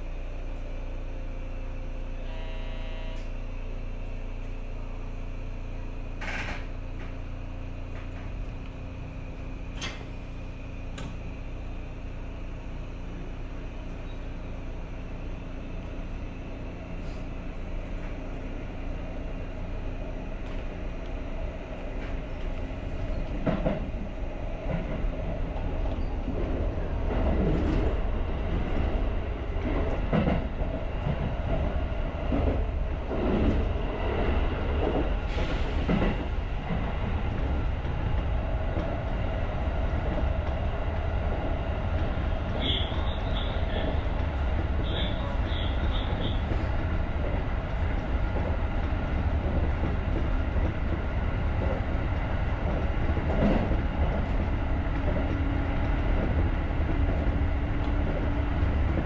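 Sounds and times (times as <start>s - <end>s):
electric train rumble: 0.0s - 59.0s.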